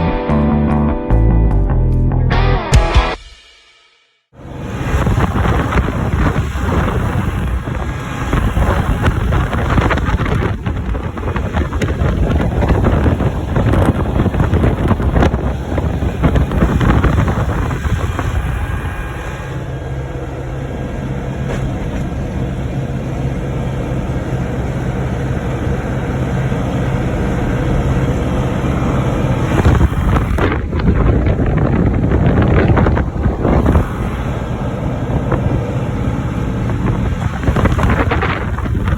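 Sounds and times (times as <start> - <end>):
tractor engine running: 4.4 - 38.9
wind buffeting microphone: 4.4 - 38.9.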